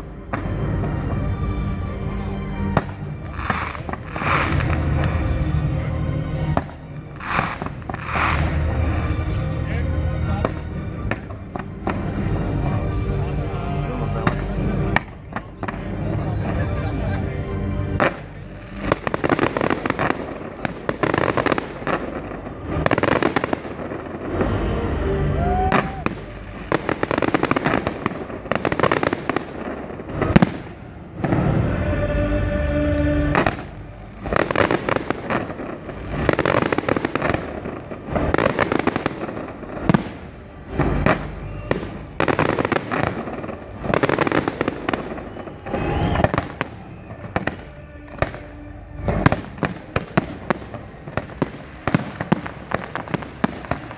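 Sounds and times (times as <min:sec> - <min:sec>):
firework bangs: 0:00.0 - 0:01.4, 0:02.6 - 0:05.4, 0:06.2 - 0:09.1, 0:09.7 - 0:13.0, 0:13.9 - 0:17.3, 0:17.9 - 0:32.0, 0:33.2 - 0:53.9
fireworks crackling: 0:00.0 - 0:53.9.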